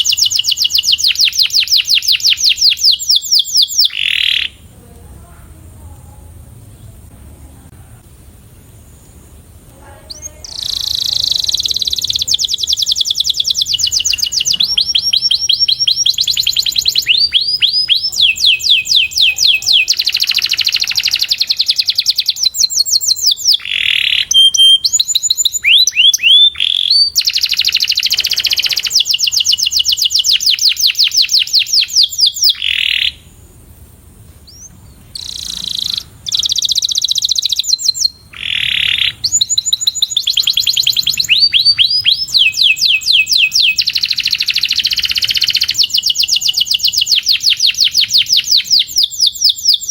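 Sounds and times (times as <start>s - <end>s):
canary singing trills: 0.0s - 4.7s, 8.7s - 33.6s, 34.4s - 49.9s.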